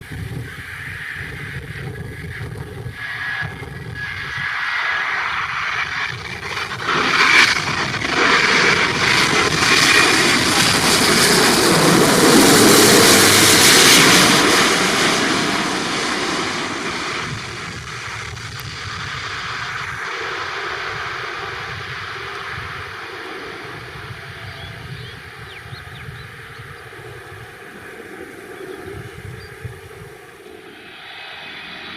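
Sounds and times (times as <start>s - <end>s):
jet airliner passing overhead: 0.0s - 31.9s.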